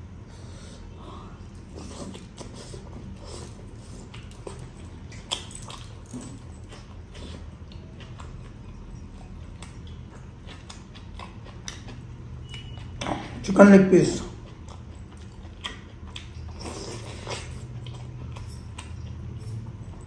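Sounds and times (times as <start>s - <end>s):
man chewing food: 0.2s - 13.5s, 14.2s - 20.0s.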